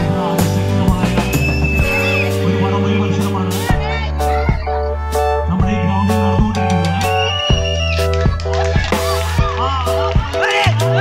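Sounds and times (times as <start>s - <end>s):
deep held bass: 0.0s - 11.0s
music with steady beat: 0.0s - 11.0s.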